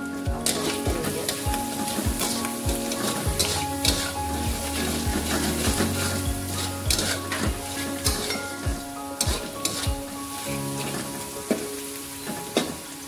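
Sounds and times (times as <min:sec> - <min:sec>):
food sizzling in a wok: 0:00.0 - 0:13.0
metal spatula scraping a pan: 0:00.4 - 0:08.6, 0:09.2 - 0:11.6.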